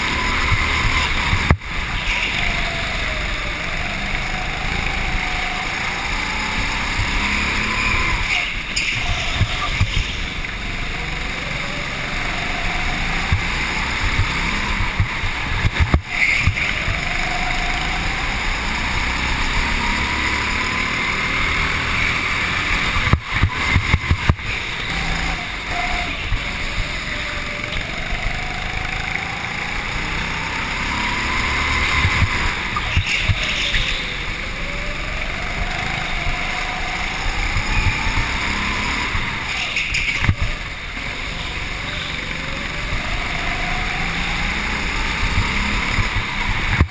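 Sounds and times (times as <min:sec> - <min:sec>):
go-kart motor revving: 0:00.0 - 0:46.9
kart rattling: 0:00.0 - 0:46.9
wind: 0:00.0 - 0:46.9.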